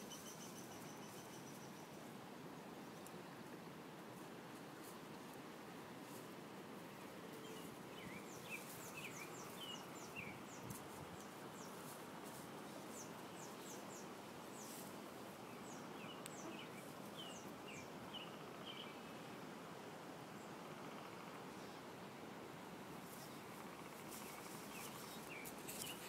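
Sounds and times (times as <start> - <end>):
faint outdoor background noise: 0.0 - 26.0.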